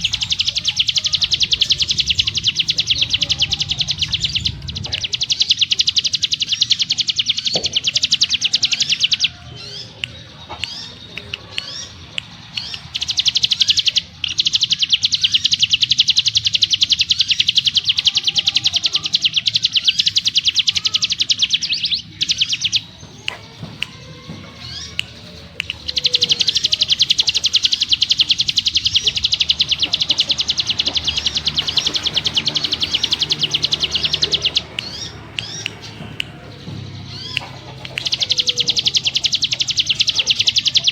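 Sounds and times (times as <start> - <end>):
bird chirps: 0.0 - 40.9
bird trilling: 0.0 - 40.9.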